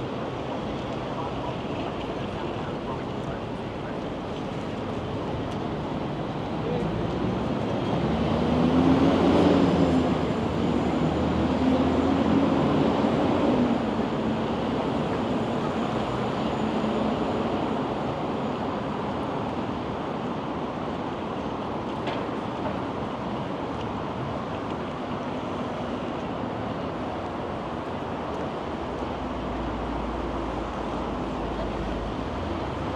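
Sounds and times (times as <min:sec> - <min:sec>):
city outdoor noise: 0:00.0 - 0:32.9.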